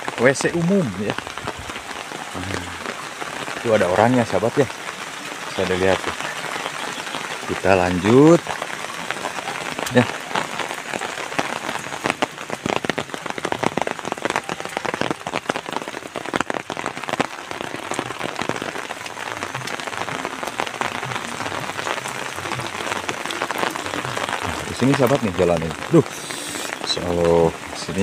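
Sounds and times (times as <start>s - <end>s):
rain falling: 0.0s - 28.0s
sharp raindrop hits: 0.0s - 28.0s.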